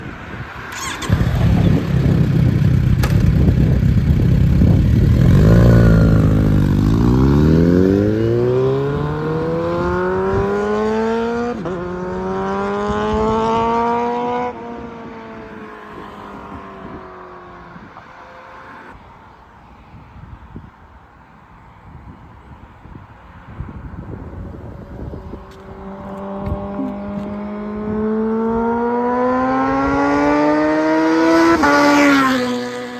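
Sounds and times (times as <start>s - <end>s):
motorcycle accelerating: 0.4s - 18.8s, 24.4s - 32.9s.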